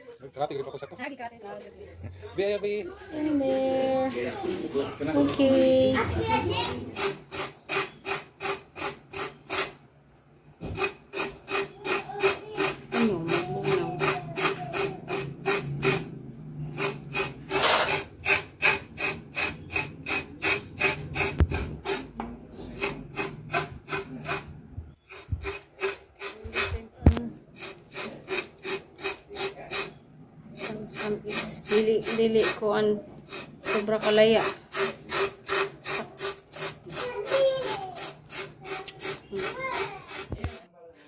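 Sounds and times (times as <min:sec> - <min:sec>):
coconut scraping on grater blade: 0:05.8 - 0:09.8, 0:10.6 - 0:40.7.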